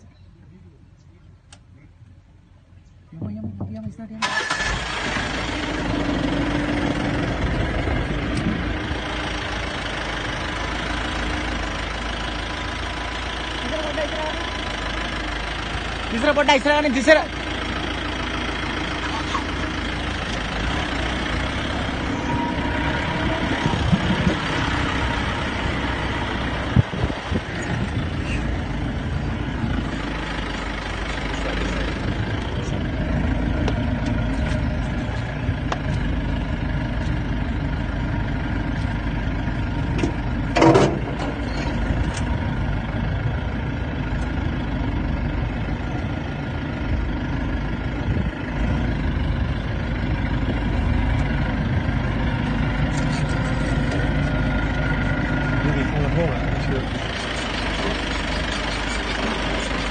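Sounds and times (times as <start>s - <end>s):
jeep engine idling: 0.0s - 59.9s.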